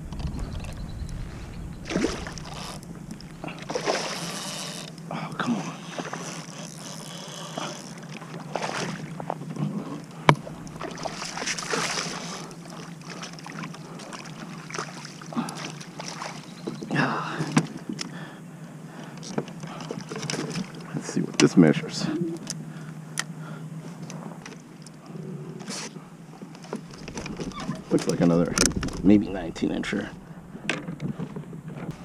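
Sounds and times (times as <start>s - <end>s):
water splashing and sloshing: 0.0s - 18.3s, 19.0s - 21.5s, 23.8s - 32.0s.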